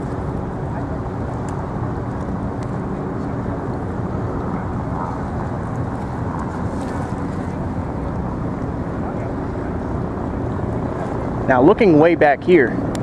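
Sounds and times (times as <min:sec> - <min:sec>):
faint engine hum: 0:00.0 - 0:13.0
low outdoor rumble: 0:00.0 - 0:13.0.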